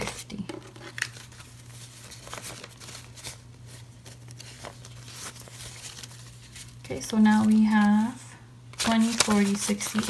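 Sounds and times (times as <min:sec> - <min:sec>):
paper banknotes rustling: 0:00.0 - 0:10.0.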